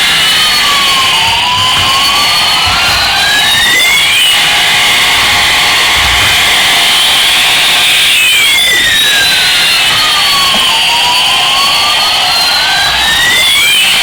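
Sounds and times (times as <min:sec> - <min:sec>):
toy jet engine whine: 0:00.0 - 0:14.0.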